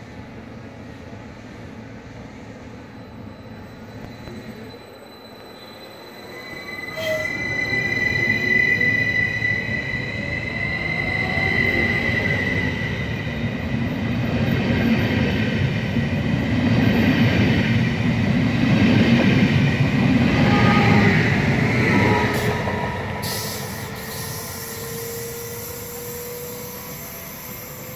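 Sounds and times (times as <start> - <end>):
thin high train tones: 0.0 - 27.9
train wheels rumbling on rails: 0.0 - 27.9.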